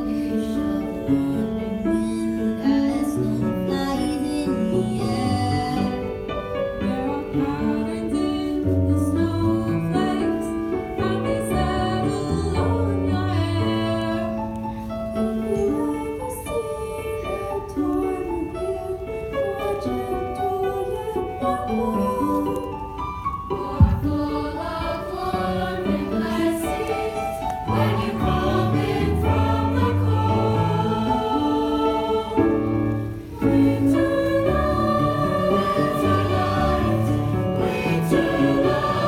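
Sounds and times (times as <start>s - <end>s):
choir singing slow song: 0.0s - 39.0s
piano accompaniment: 0.0s - 39.0s.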